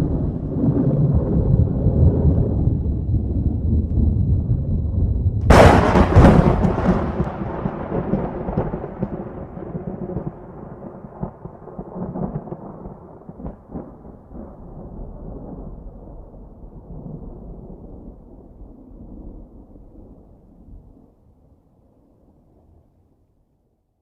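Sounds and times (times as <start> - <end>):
thunderclap: 0.0 - 20.4
rolling thunder rumble: 0.0 - 21.0.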